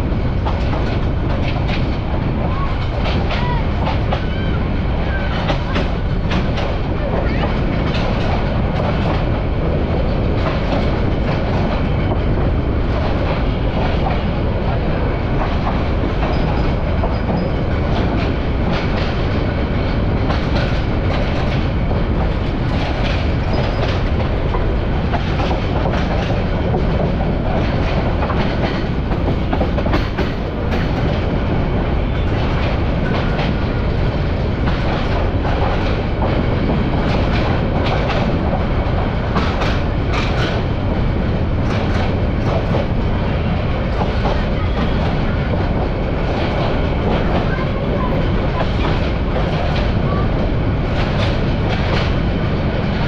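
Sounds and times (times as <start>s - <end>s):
train rumbling: 0.0s - 53.0s
wheels clacking over rail joints: 0.3s - 53.0s.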